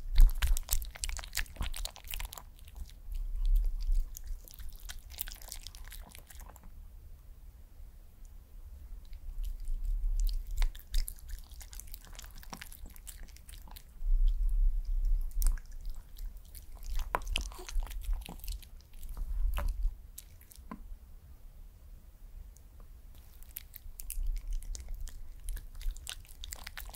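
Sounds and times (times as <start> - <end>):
dog chewing with wet smacks: 0.0 - 6.7, 9.0 - 20.8, 23.2 - 26.9.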